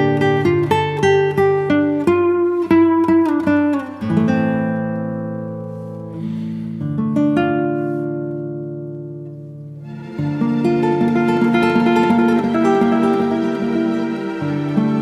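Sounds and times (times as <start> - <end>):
acoustic guitar picking and chords: 0.0 - 15.0.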